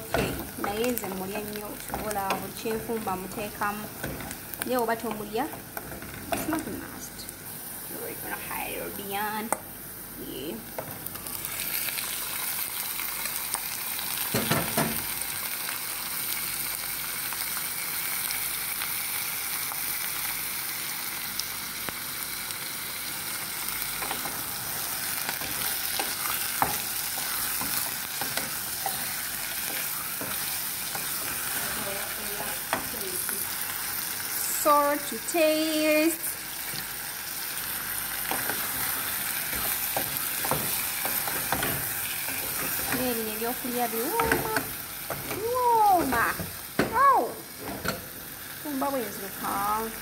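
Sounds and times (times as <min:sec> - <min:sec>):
prawns and onions sizzling: 0:00.0 - 0:50.0.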